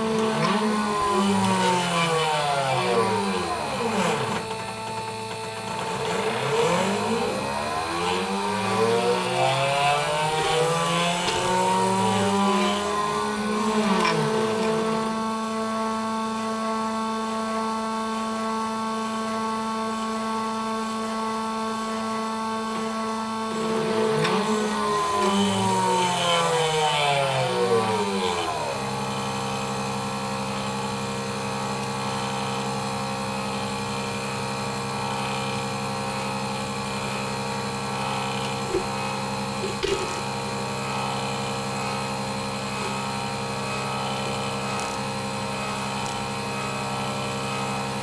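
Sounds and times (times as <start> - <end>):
motor hum: 0.0 - 48.0
stepper motors whining: 0.0 - 48.0.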